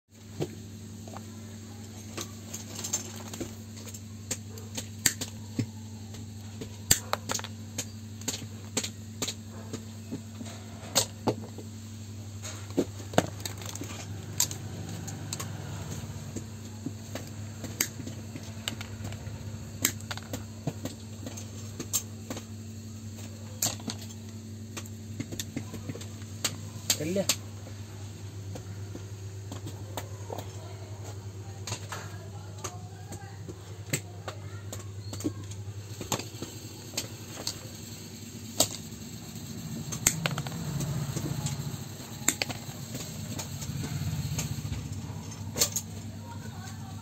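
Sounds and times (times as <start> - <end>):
steady low hum: 0.1 - 47.0.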